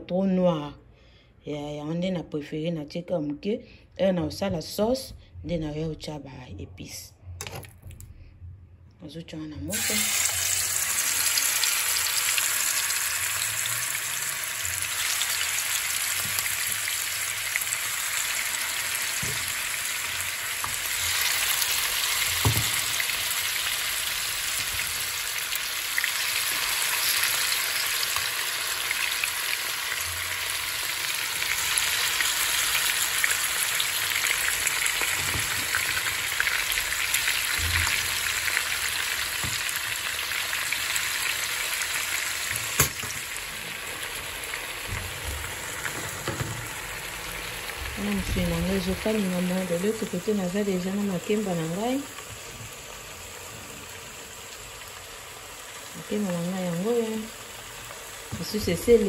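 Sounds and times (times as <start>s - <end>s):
meat sizzling in a frying pan: 9.7s - 59.0s.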